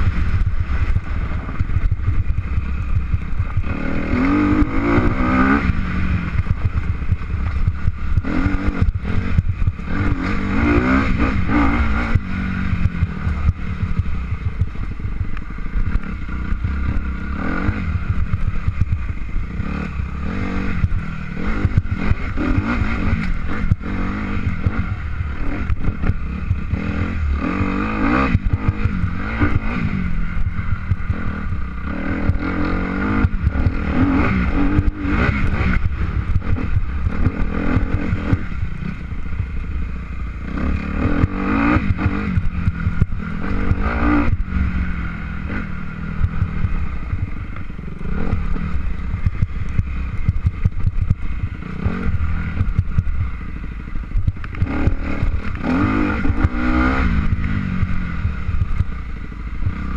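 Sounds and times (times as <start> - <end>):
motor vehicle running unevenly: 0.0 - 59.9.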